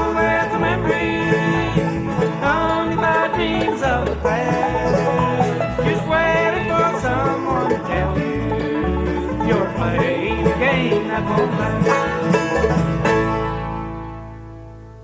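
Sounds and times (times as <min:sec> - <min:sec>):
bluegrass band playing: 0:00.0 - 0:15.0.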